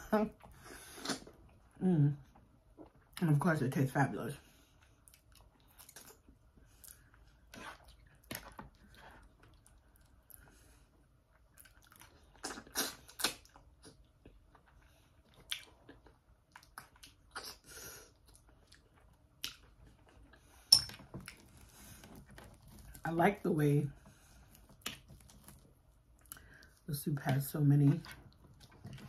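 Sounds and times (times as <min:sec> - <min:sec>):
person chewing food: 0:00.3 - 0:03.2, 0:04.5 - 0:23.0, 0:24.0 - 0:26.9, 0:28.0 - 0:29.0.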